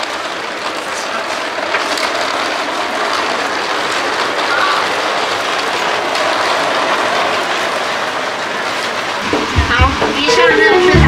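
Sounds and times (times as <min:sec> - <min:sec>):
standing train running noise: 0:00.0 - 0:11.0.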